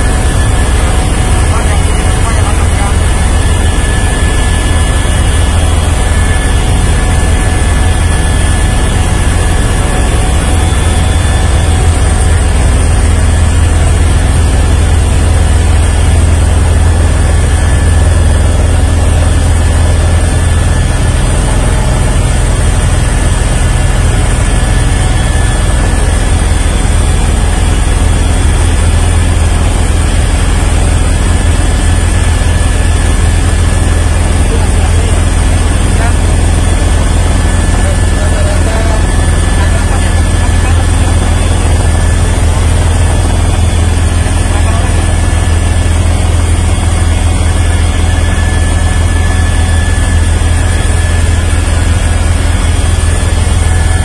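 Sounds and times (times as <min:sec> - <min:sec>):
helicopter rotor and engine drone: 0:00.0 - 0:54.0
high-pitched whine: 0:00.0 - 0:54.0.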